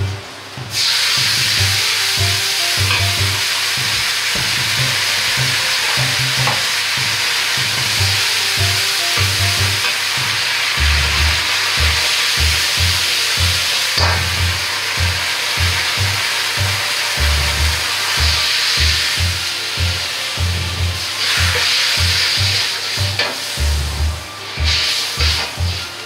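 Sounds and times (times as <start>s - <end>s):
sauce sizzling in hot oil: 0.7s - 26.0s.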